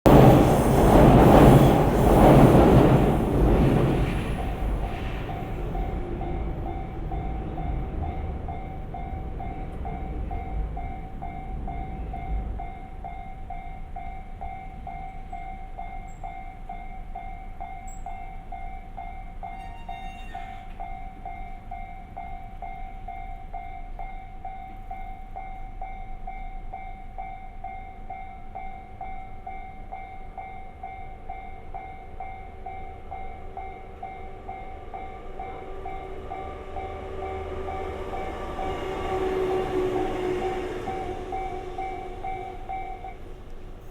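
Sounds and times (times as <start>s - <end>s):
train rumbling past: 0.0s - 17.8s, 18.4s - 43.9s
level crossing warning bell: 5.3s - 43.9s.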